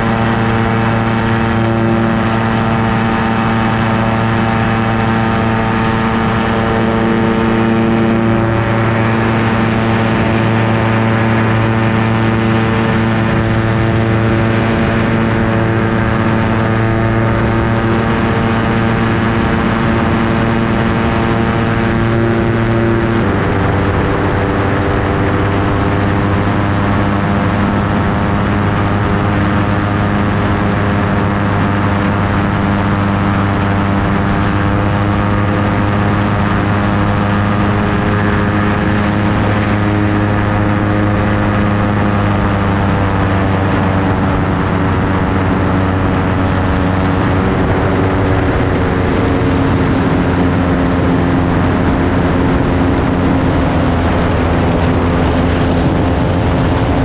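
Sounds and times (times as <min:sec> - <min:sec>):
ultralight aircraft engine and propeller: 0:00.0 - 0:57.0.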